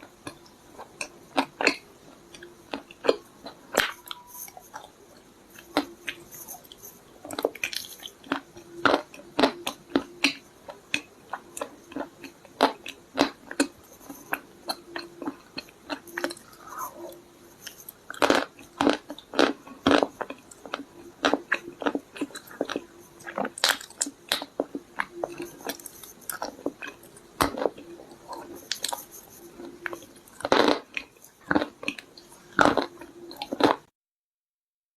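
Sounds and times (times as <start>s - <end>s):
chewing crunchy clay: 0.1s - 33.9s.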